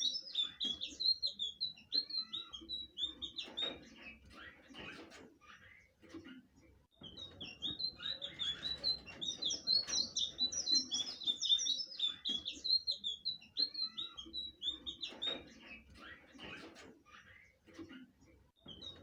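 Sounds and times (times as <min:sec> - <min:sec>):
bird warbling song: 0:00.0 - 0:06.0, 0:07.0 - 0:17.7, 0:18.6 - 0:19.0.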